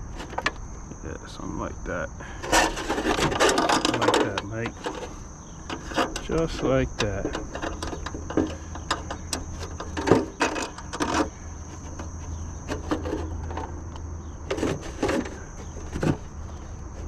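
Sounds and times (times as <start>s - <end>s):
knocks and rattles: 0.0s - 0.6s, 2.4s - 17.0s
high insect drone: 0.0s - 17.0s.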